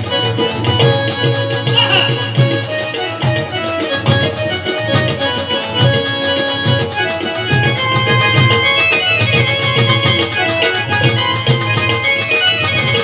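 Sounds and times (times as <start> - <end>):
hand drums: 0.0 - 13.0
sustained keyboard notes: 0.0 - 13.0.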